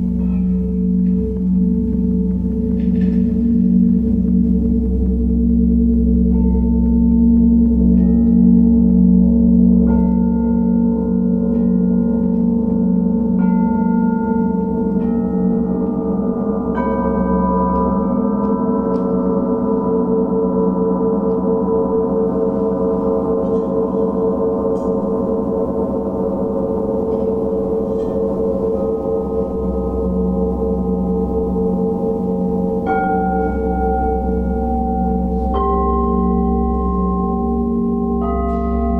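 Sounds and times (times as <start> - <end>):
gong ringing: 0.0 - 38.9
singing bowls struck: 0.0 - 38.9.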